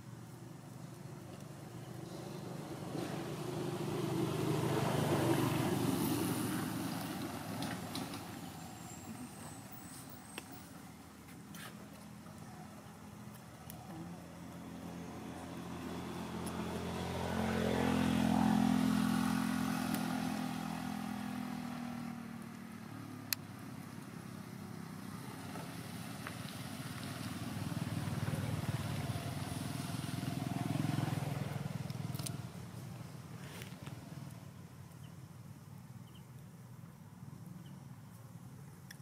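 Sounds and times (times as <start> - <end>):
vehicle engine passing: 0.0 - 34.6.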